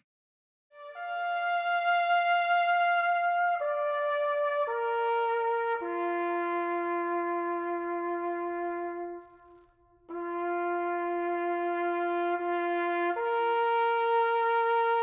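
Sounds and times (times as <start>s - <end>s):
brass horn playing slow notes: 0.8s - 15.0s.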